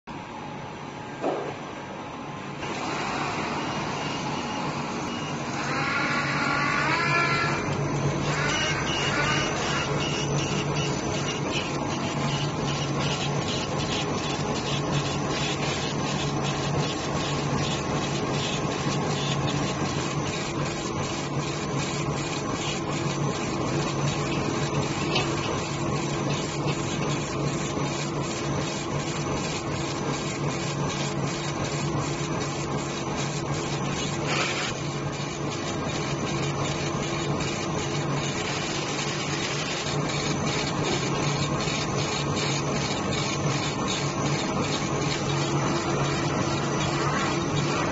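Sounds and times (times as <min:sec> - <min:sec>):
laser engraver head shuttling: 0:05.1 - 0:47.9.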